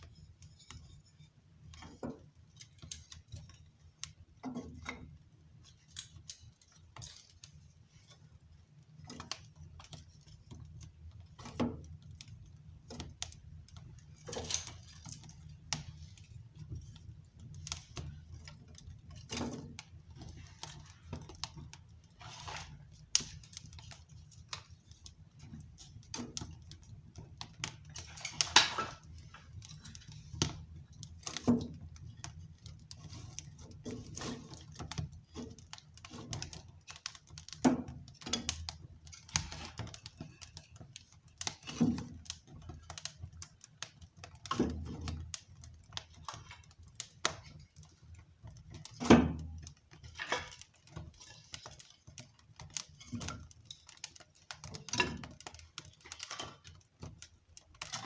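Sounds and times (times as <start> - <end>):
wood crackling and popping in stove: 0.0 - 58.0.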